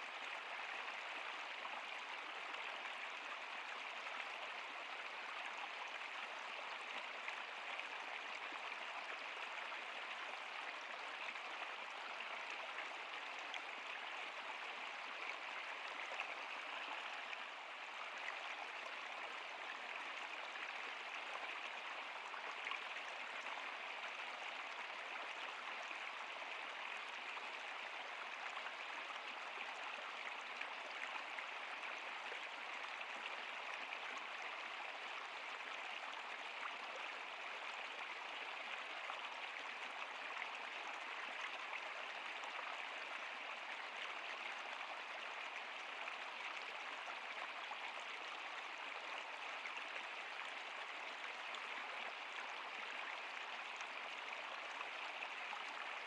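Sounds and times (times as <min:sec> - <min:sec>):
water flowing in a stream: 0:00.0 - 0:56.0.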